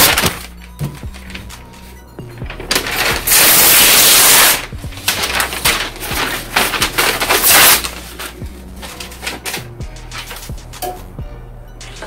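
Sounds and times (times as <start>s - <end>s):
paper rustling and crackling: 0.0s - 10.6s.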